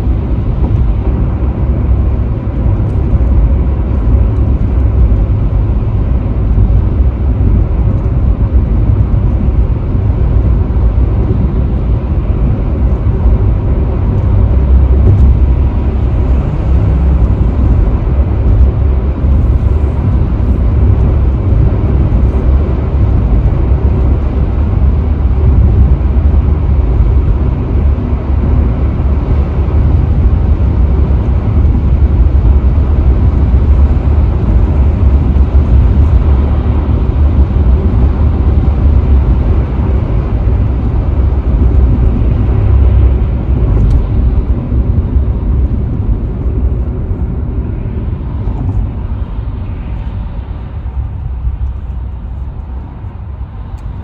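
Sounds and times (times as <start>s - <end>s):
road and tyre noise inside car: 0.0s - 54.0s.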